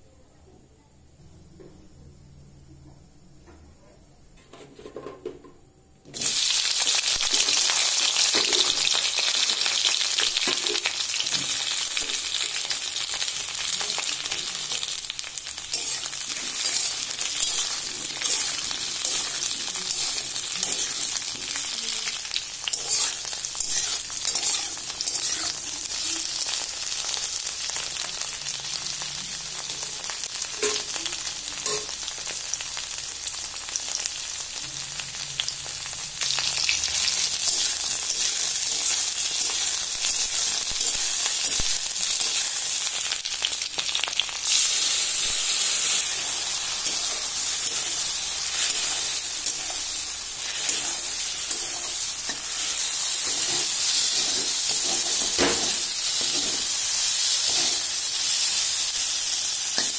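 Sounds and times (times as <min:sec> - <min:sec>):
okra sizzling in hot oil: 0:06.0 - 0:59.9.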